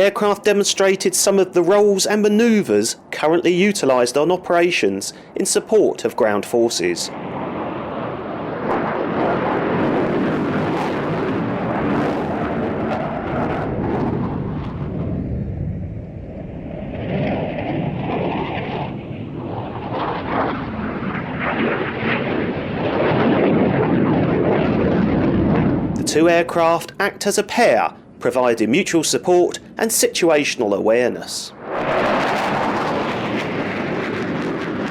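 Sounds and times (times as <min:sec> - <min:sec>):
loud jet noise: 0:00.0 - 0:29.8, 0:31.1 - 0:34.9.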